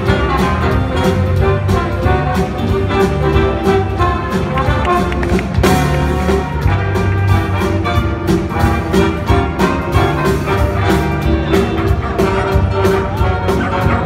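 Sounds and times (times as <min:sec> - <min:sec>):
upbeat brass band music: 0:00.0 - 0:14.0.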